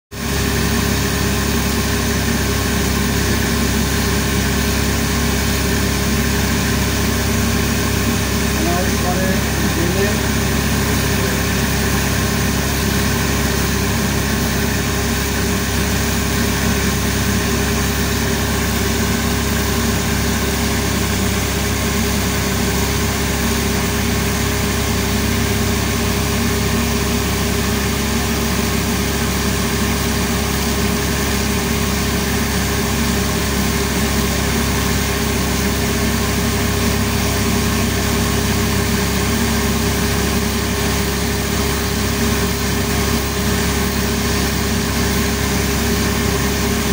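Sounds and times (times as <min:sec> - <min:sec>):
machine motor humming: 0:00.3 - 0:33.6, 0:35.6 - 0:46.9.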